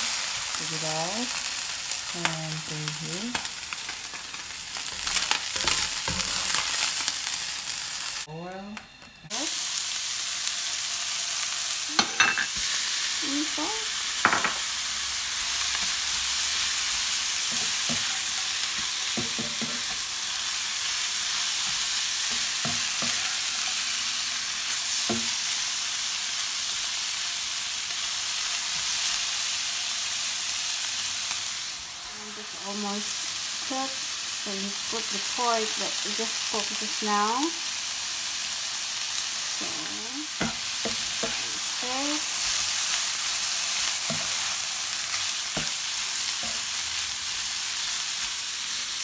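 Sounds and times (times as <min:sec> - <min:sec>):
food sizzling in hot oil: 0:00.0 - 0:49.0.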